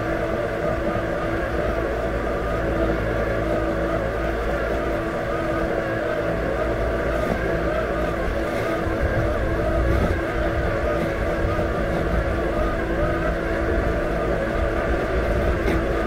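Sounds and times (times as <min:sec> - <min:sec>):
robotic mower motor hum: 0:00.0 - 0:16.0.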